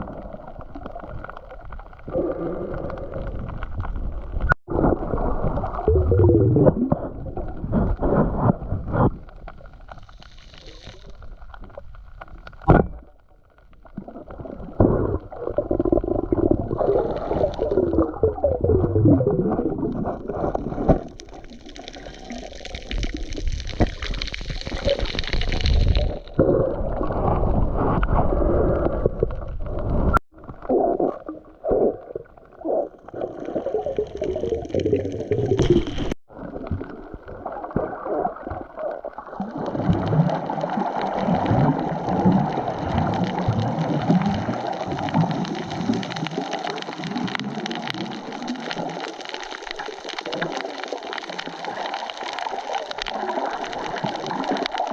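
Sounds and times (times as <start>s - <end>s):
muffled underwater gurgling: 0.0s - 9.5s, 13.9s - 54.9s
bubbling and swishes in water: 0.0s - 54.9s.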